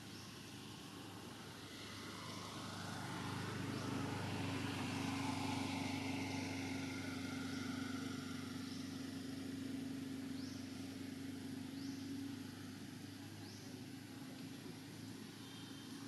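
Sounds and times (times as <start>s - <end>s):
distant motor vehicle engine hum: 0.0s - 16.0s.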